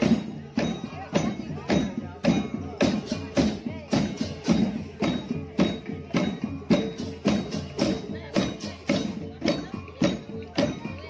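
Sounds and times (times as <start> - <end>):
percussion ensemble playing steady beat: 0.0 - 11.0.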